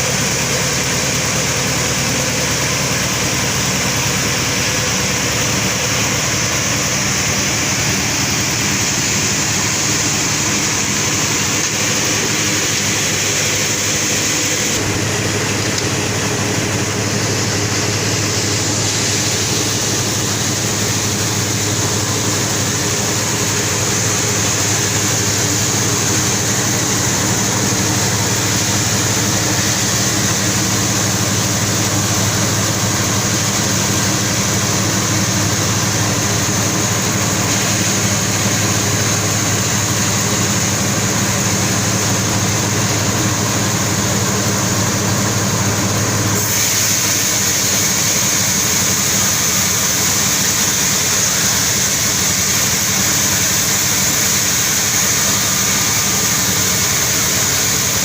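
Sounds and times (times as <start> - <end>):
engine hum: 0.0 - 58.0
sawmill saw cutting log: 0.0 - 58.0.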